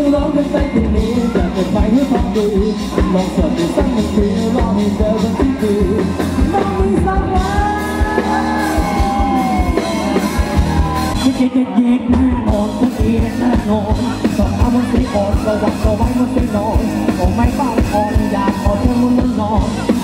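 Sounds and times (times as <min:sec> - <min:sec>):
drum beat: 0:00.0 - 0:11.3, 0:12.2 - 0:20.0
bass guitar: 0:00.0 - 0:20.0
electric guitar: 0:00.0 - 0:20.0
person singing: 0:00.0 - 0:20.0.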